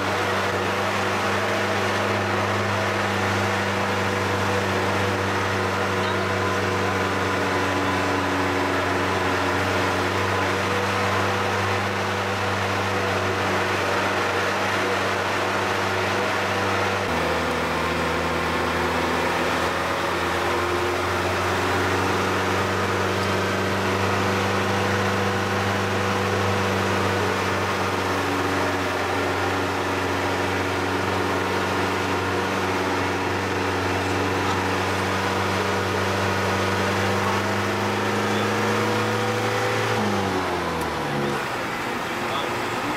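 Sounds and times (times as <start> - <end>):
road noise: 0.0 - 42.9
vehicle engine droning: 0.0 - 42.9.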